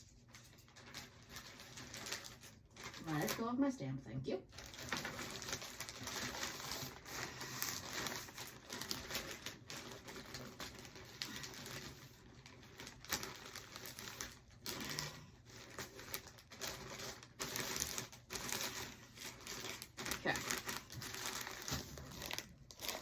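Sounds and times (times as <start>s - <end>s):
packaging rustling: 0.0s - 3.5s, 4.5s - 23.0s.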